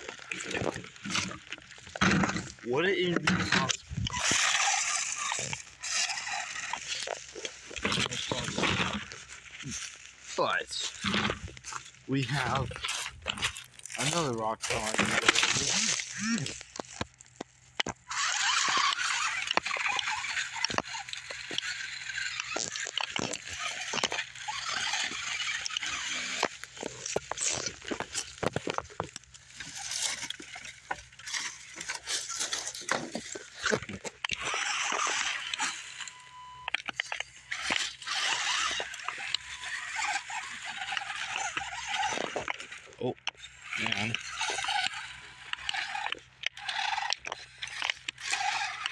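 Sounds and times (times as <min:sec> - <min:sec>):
small electric motor and gearbox: 0:00.0 - 0:48.9
tyres scraping on rock: 0:00.0 - 0:48.9.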